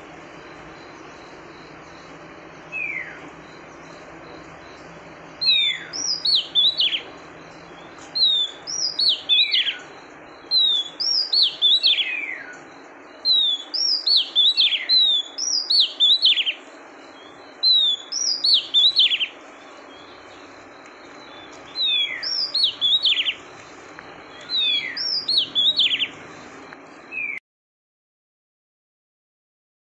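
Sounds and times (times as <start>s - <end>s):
bird whistling calls: 0.8s - 4.8s, 5.4s - 27.4s.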